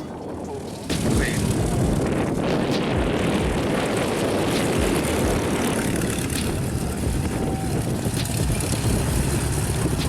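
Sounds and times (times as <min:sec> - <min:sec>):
propeller aircraft engine: 0:00.2 - 0:10.0.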